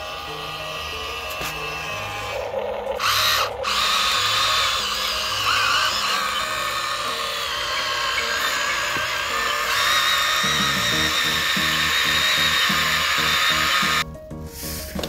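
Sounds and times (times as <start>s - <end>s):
small electric motor whirring: 0.0s - 14.0s
background music: 0.0s - 15.0s.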